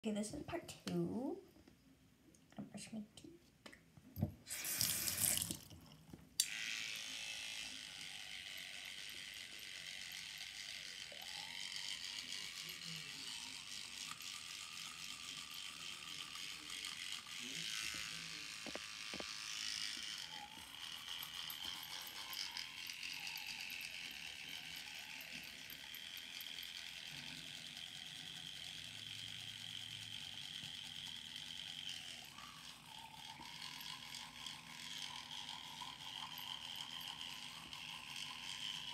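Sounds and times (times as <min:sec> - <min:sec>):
electric toothbrush click: 0:04.5 - 0:05.6, 0:06.4 - 0:38.9
electric toothbrush buzzing: 0:04.5 - 0:05.7, 0:06.4 - 0:38.9.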